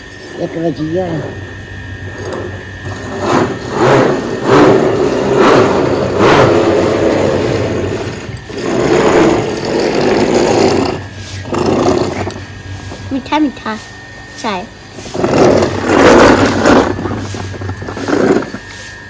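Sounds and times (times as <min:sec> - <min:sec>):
small engine revving: 0:00.8 - 0:13.2, 0:14.9 - 0:19.0.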